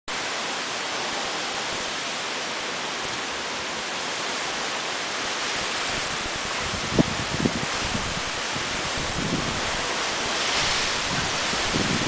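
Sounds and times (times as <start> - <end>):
heavy rain pouring: 0.1 - 12.0.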